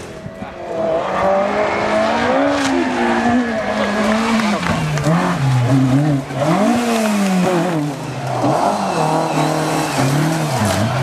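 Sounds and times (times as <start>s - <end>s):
rally car engine revving hard: 0.0s - 11.0s.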